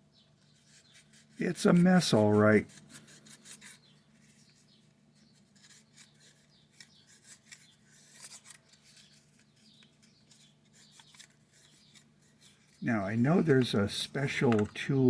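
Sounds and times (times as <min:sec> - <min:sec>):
emery scratching on motor contacts: 0:00.4 - 0:15.0.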